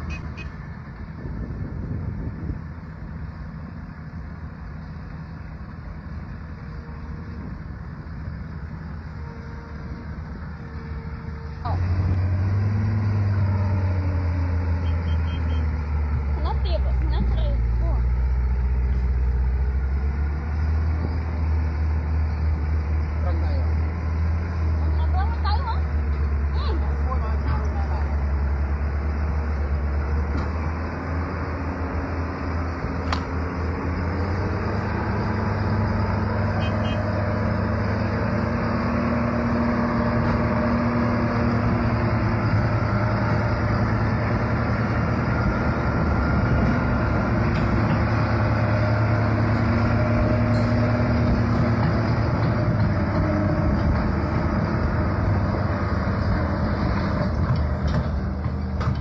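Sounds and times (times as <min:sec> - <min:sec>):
truck diesel engine under load: 0:00.0 - 0:59.0.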